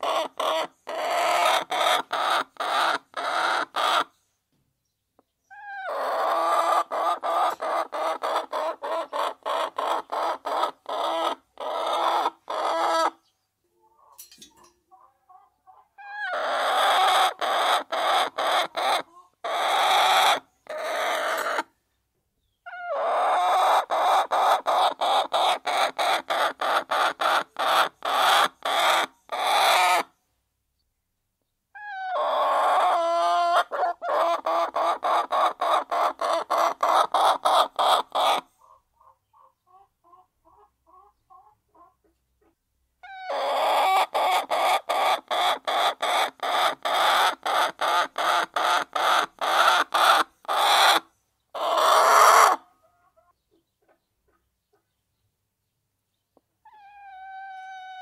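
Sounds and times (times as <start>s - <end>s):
hens clucking: 0.0s - 4.1s, 5.2s - 21.7s, 22.6s - 30.1s, 31.8s - 55.0s, 56.4s - 58.0s.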